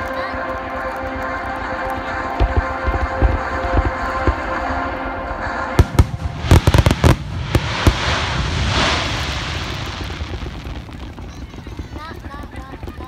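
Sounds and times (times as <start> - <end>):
fireworks hissing rush: 0.8 - 12.8
fireworks bangs: 1.9 - 13.0.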